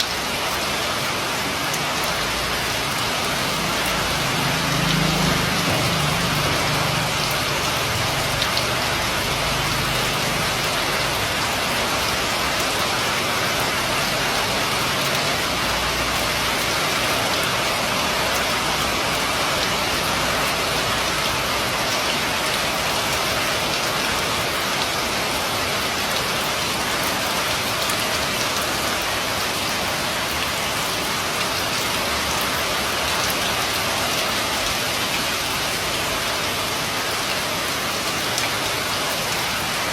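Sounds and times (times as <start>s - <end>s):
rain falling on roof: 0.0s - 39.9s.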